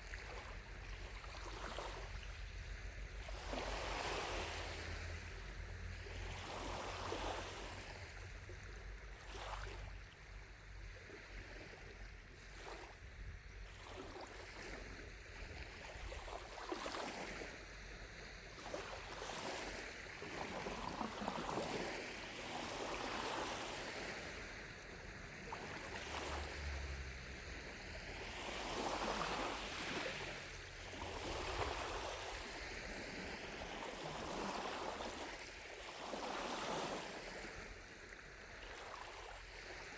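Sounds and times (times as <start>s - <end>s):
waves lapping against shore: 0.0s - 39.9s.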